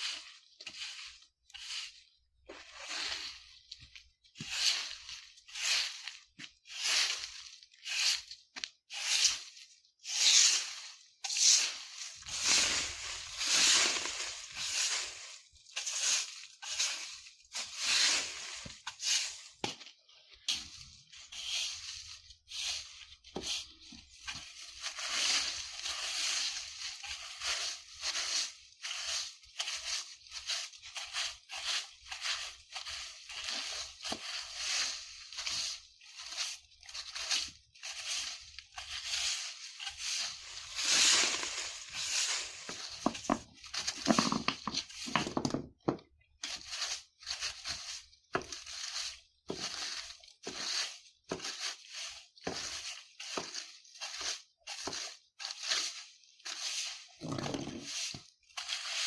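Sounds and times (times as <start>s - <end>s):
crunch of leaves: 0.0s - 8.1s, 10.3s - 20.0s, 20.6s - 45.2s, 46.4s - 59.0s
broom sweeping dry leaves: 0.0s - 45.5s, 46.3s - 59.0s.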